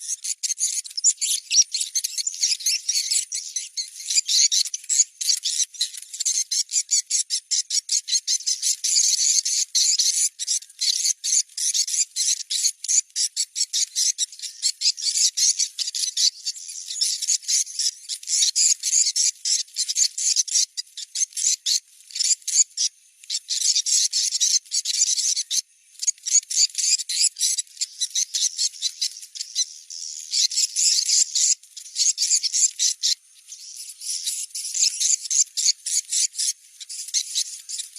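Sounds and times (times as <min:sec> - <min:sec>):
rapid high bird twittering: 0:00.0 - 0:37.9.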